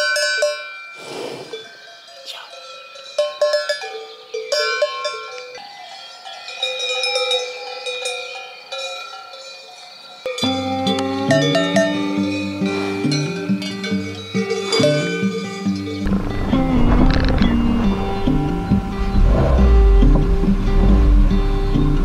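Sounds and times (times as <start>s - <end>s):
cowbells clanking: 0.0s - 19.2s.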